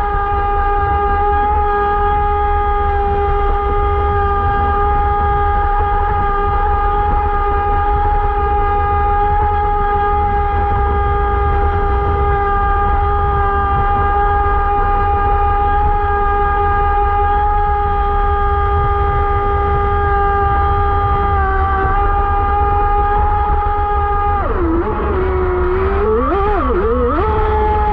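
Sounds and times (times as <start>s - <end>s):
low rumble: 0.0s - 27.9s
small motor whining: 3.3s - 27.9s.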